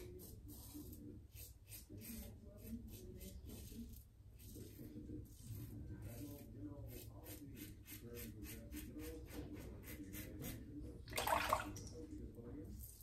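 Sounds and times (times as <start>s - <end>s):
razor scraping stubble: 0.0s - 10.7s.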